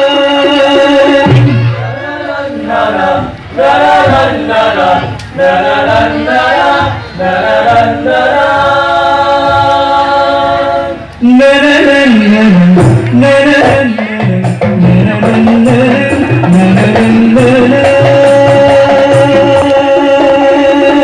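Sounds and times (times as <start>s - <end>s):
frame drums and keyboard accompaniment: 0.0s - 21.0s
young men singing unaccompanied: 0.0s - 21.0s.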